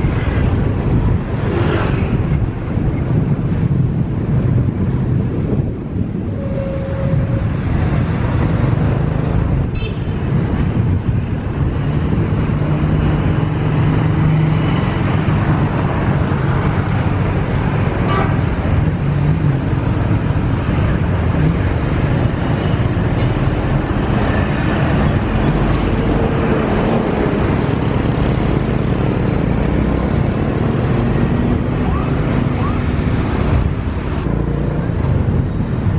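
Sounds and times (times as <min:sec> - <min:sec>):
surrounding traffic: 0:00.0 - 0:35.9
tyre and road noise: 0:00.0 - 0:35.9.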